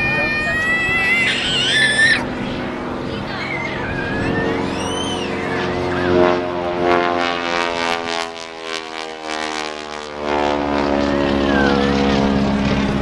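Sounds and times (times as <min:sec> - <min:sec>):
propeller plane passing: 0:00.0 - 0:13.0.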